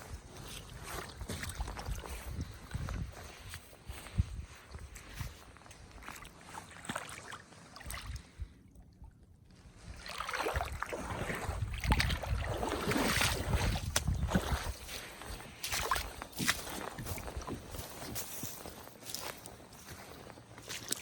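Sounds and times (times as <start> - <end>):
water sloshing around kayak: 0.0 - 21.0.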